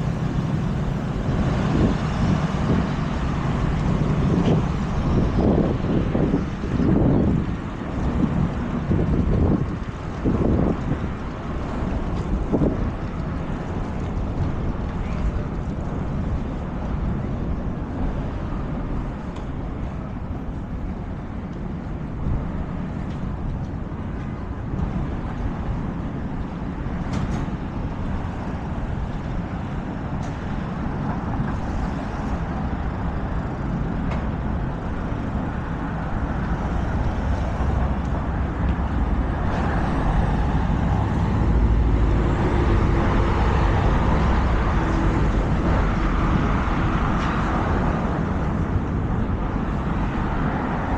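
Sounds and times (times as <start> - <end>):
road traffic rumble: 0.0 - 50.9.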